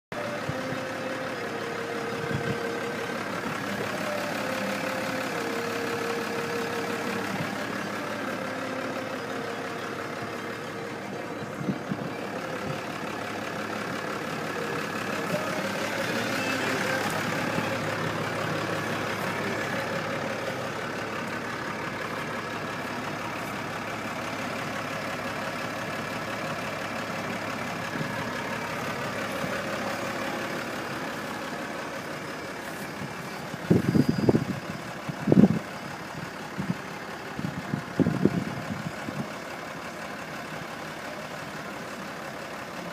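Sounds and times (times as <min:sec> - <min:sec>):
tractor engine and mower drone: 0:00.1 - 0:42.9.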